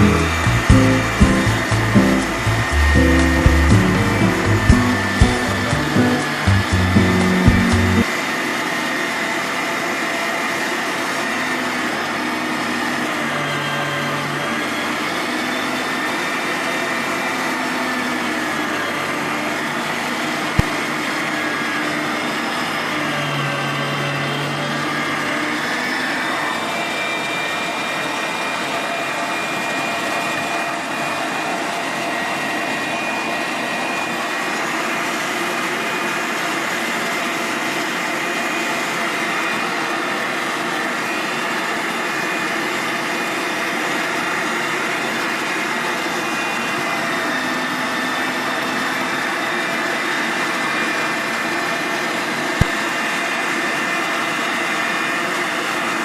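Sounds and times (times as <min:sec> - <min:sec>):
electric meat grinder whirring: 0:00.0 - 0:56.0.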